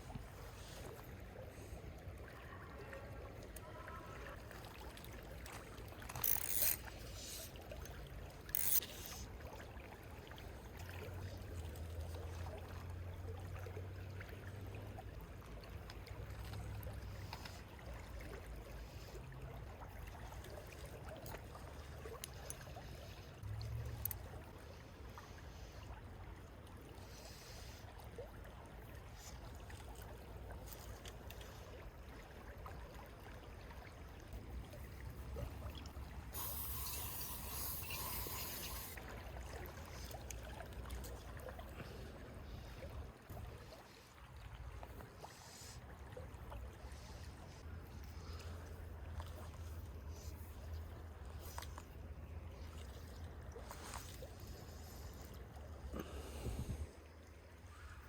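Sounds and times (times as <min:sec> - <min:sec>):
river water running: 0:00.0 - 0:58.0.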